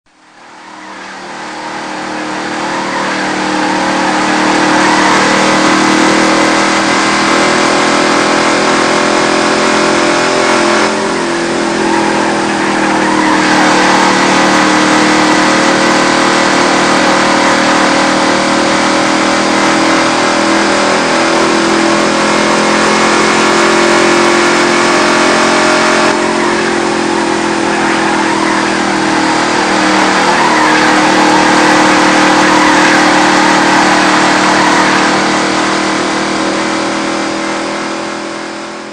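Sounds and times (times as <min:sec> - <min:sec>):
sports car engine running: 0:00.1 - 0:38.9.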